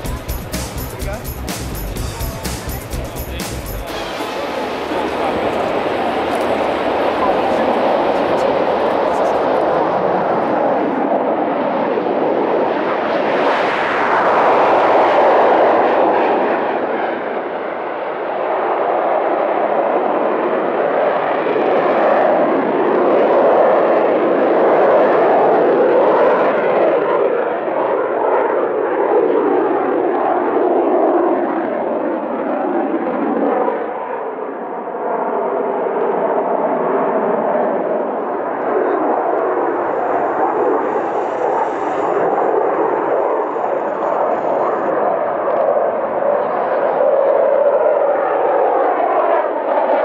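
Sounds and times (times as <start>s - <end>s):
fighter jet engine roar: 0.0s - 50.0s.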